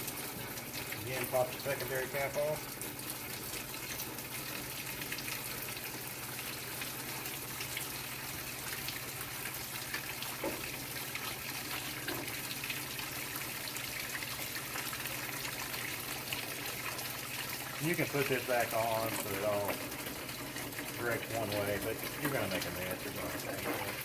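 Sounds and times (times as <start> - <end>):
coolant pouring into a bucket: 0.0 - 24.0.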